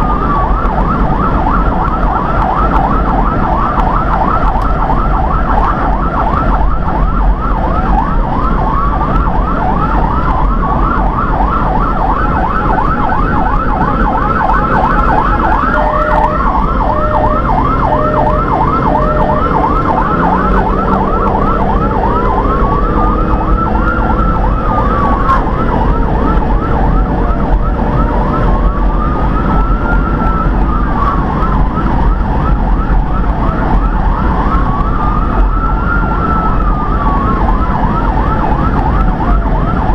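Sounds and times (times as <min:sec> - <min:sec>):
electronic siren yelp and wail: 0:00.0 - 0:39.9
road and engine noise: 0:00.0 - 0:39.9.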